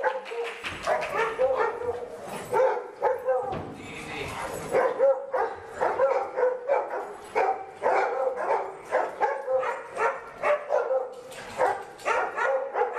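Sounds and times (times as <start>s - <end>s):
dog barking: 0.0s - 3.5s, 4.7s - 12.9s.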